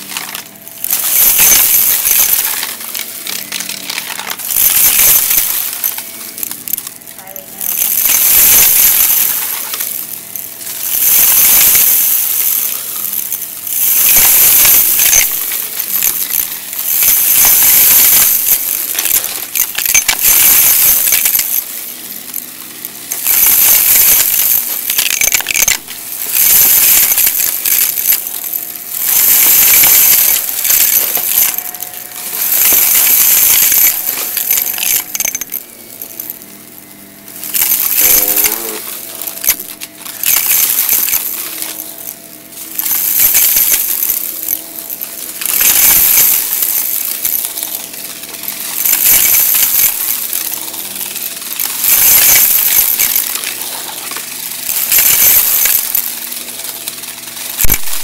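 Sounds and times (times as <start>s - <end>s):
vacuum cleaner running: 0.0s - 25.2s, 25.8s - 57.6s
debris clicking and rattling: 0.0s - 58.0s.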